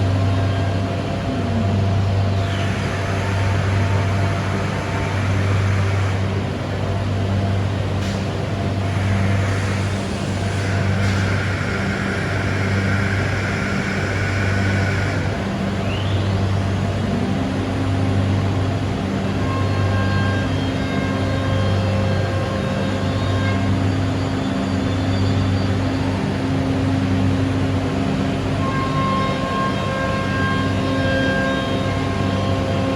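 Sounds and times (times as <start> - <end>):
machine hum: 0.0 - 32.9
machine whine: 0.0 - 32.9.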